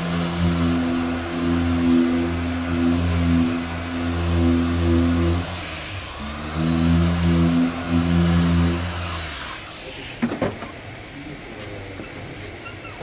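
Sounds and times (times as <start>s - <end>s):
power tool motor running: 0.0s - 10.6s.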